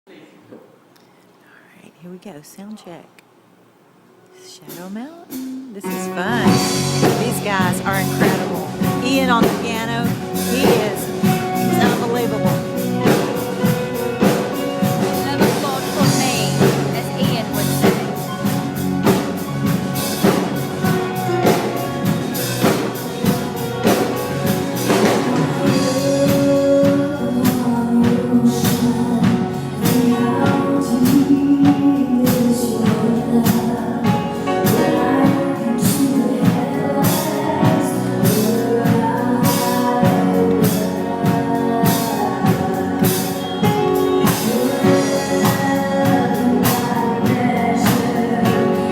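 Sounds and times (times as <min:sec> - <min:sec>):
piano: 0:04.2 - 0:48.9
live band playing: 0:04.3 - 0:48.9
voices singing: 0:04.3 - 0:48.9
drum kit beat: 0:04.4 - 0:48.9.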